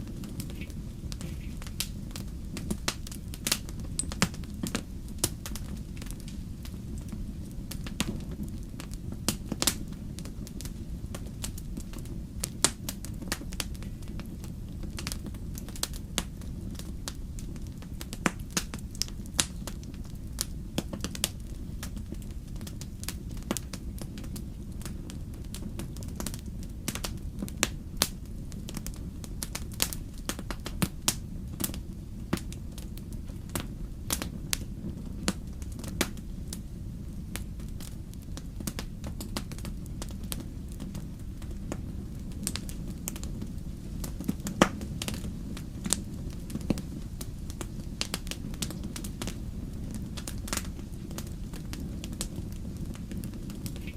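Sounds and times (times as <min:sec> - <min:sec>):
fireplace fire crackling: 0:00.0 - 0:53.9
low rumble of flames: 0:00.0 - 0:53.9.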